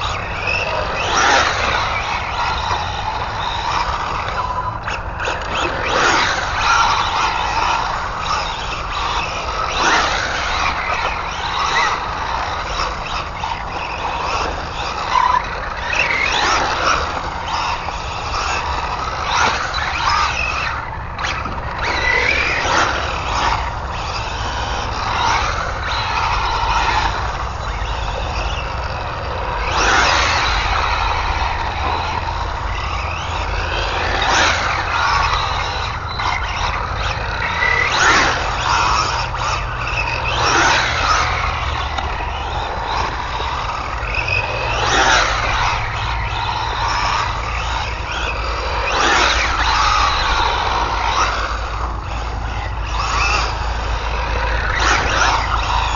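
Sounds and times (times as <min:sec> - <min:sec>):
electric motor whining: 0:00.0 - 0:55.9.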